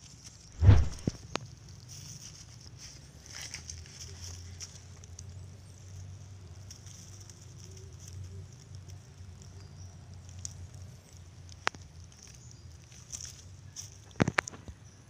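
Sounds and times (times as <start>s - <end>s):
net rustling in dry leaves: 0.1s - 14.6s.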